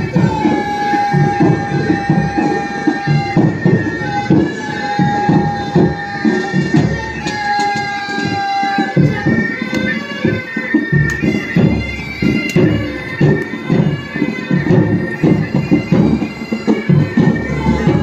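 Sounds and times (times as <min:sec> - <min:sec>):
bagpipes playing melody: 0:00.0 - 0:18.0
drums beating: 0:00.0 - 0:18.0.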